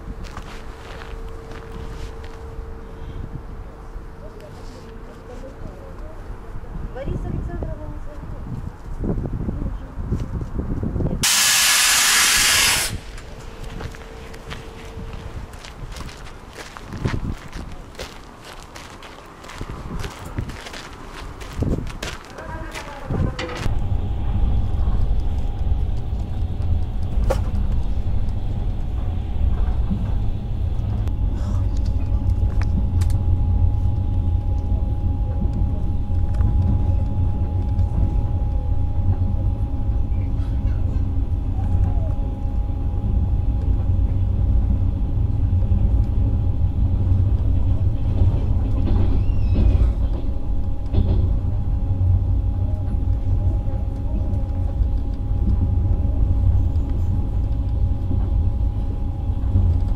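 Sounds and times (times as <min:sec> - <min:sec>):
train carriage rumbling on track: 0:00.0 - 0:59.9.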